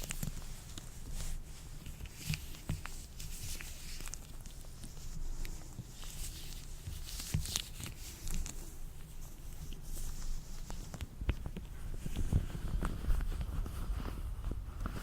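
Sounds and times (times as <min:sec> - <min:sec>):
latex gloves rustling: 0:00.0 - 0:15.0.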